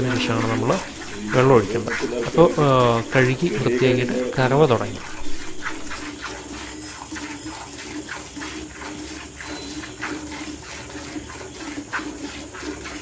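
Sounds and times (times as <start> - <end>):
milk squirting into metal pail: 0.0 - 13.0.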